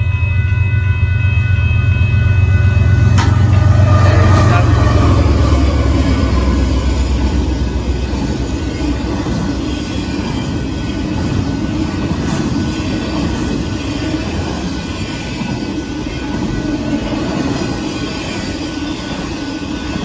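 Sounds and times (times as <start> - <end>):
diesel locomotive rumble: 0.0 - 20.0.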